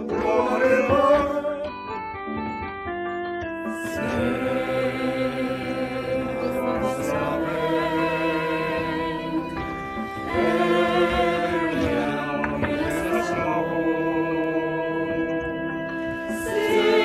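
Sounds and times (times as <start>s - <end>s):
mixed choir singing: 0.0s - 1.8s, 3.8s - 17.0s.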